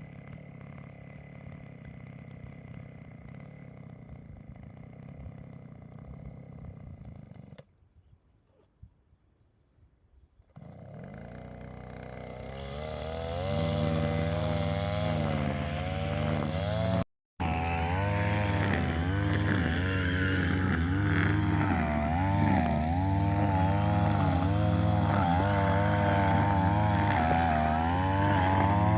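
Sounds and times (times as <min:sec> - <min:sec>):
brush cutter engine: 0:00.0 - 0:07.7, 0:10.5 - 0:28.9.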